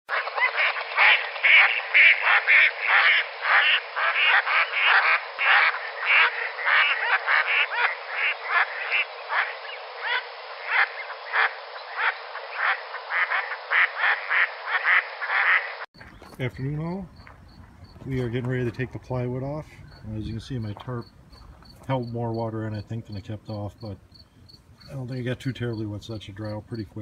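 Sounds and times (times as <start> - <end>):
chorus of croaking calls: 0.1 - 27.0.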